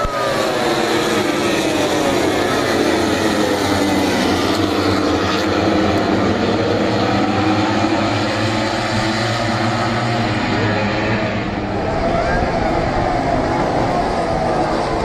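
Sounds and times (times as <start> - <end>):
racing motorcycle engines at high revs: 0.0 - 15.0.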